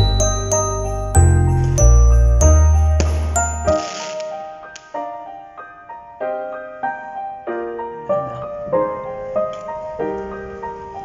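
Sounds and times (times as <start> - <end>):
slow piano tune: 0.0 - 11.0.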